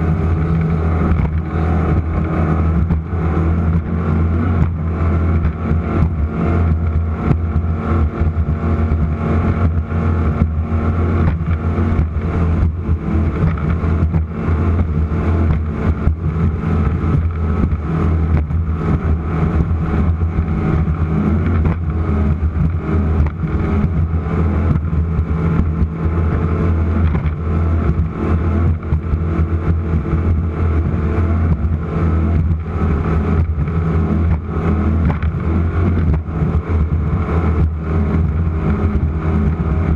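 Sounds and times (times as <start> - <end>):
race boat engines droning: 0.0 - 39.9.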